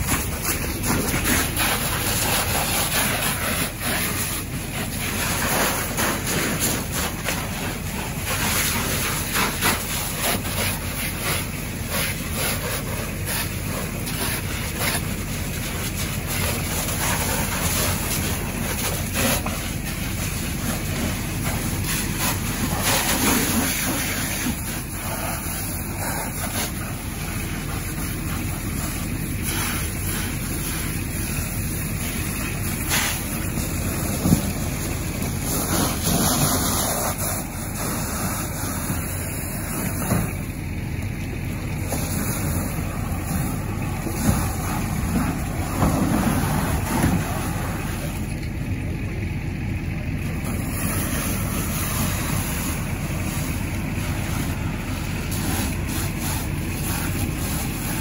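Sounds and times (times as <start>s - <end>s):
low rumble: 0.0s - 57.6s
fire crackling: 0.0s - 58.0s
fire hose spraying water: 0.0s - 58.0s.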